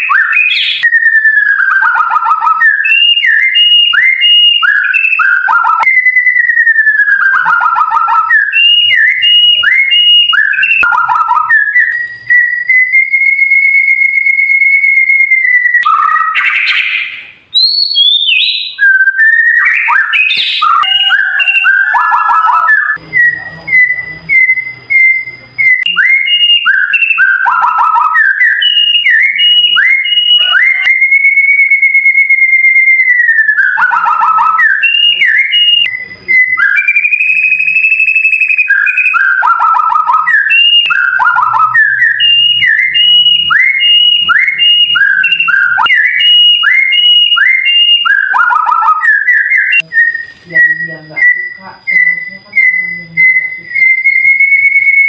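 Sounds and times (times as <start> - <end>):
songbird whistling song: 0.0 - 55.0.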